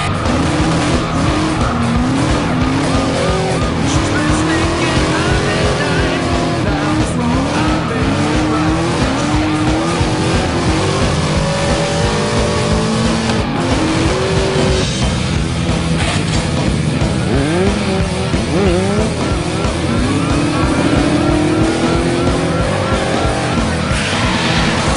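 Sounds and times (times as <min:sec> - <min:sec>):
background music: 0:00.0 - 0:24.9
car engine revving: 0:00.0 - 0:24.9.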